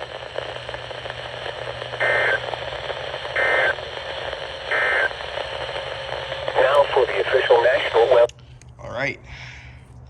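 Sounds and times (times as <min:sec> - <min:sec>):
radio hiss: 0:00.0 - 0:08.3.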